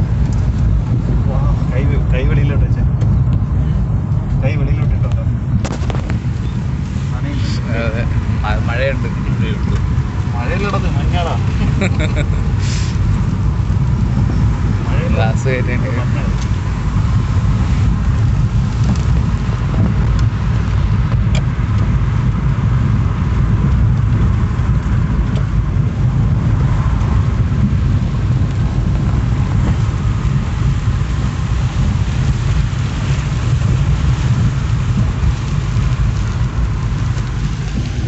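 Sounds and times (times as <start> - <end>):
car cabin road noise: 0.0 - 38.0.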